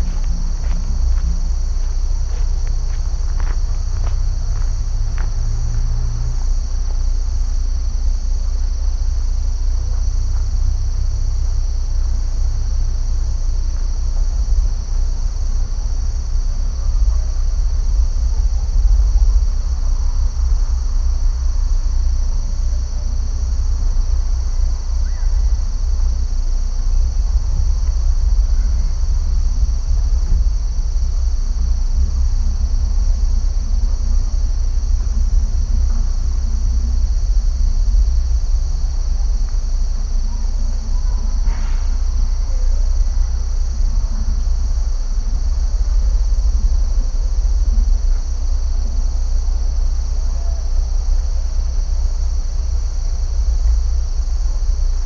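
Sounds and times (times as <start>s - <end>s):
high-pitched insect chorus: 0.0s - 55.0s
low rumble: 0.0s - 55.0s.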